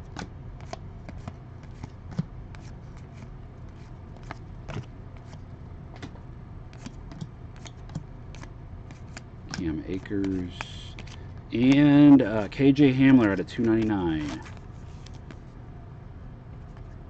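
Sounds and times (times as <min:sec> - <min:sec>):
steady low hum: 0:00.0 - 0:17.0
trading cards flipping: 0:00.1 - 0:05.4, 0:06.0 - 0:15.4.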